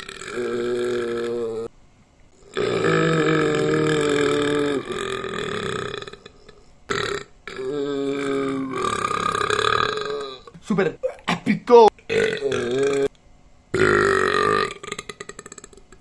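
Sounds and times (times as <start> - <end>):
man burping: 0.0 - 1.7, 2.4 - 11.4, 12.1 - 13.1, 13.7 - 16.0.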